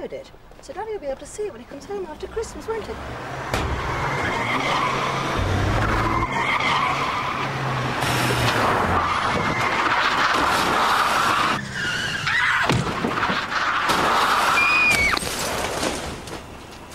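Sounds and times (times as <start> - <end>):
tyres screeching on tarmac: 1.4 - 16.9.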